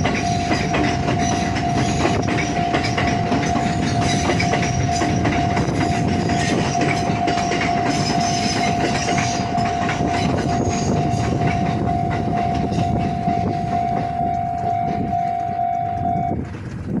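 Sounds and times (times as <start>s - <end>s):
train wheels clacking over rail joints: 0.0s - 15.2s
crossing warning bell ringing: 0.0s - 16.5s.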